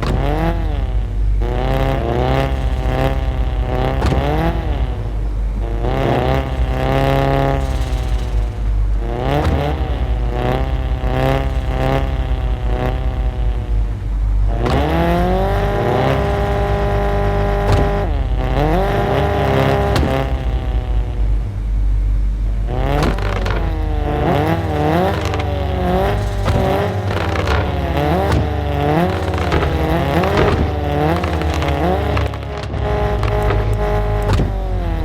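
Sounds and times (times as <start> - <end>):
car exhaust revving: 0.0 - 35.0.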